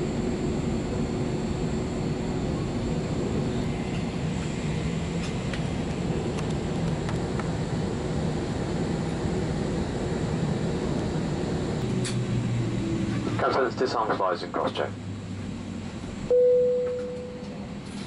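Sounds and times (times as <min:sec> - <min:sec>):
airliner engine and airflow rush: 0:00.0 - 0:18.0
steady hum: 0:00.0 - 0:18.0.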